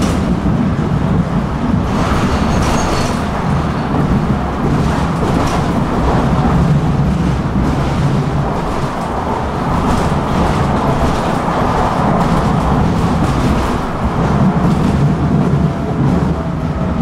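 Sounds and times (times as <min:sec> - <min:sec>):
tram rumbling on track: 0:00.0 - 0:17.0.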